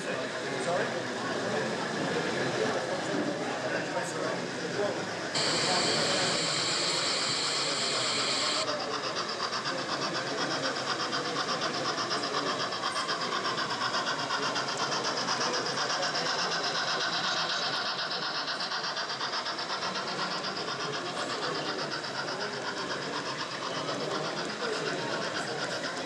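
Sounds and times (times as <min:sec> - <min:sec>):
model train rattling on track: 0:00.0 - 0:26.0.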